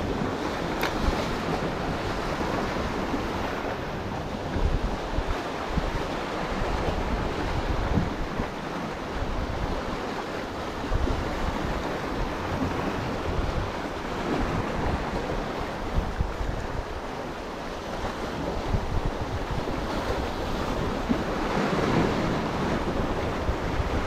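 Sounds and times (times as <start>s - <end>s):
waves breaking against rocks: 0.0s - 24.0s
wind buffeting microphone: 0.0s - 24.0s.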